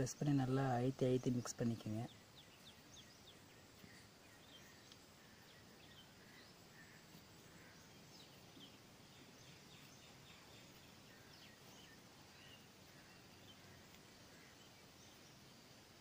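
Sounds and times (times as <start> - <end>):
faint bird chirps: 0.0 - 16.0
faint outdoor hiss: 0.0 - 16.0.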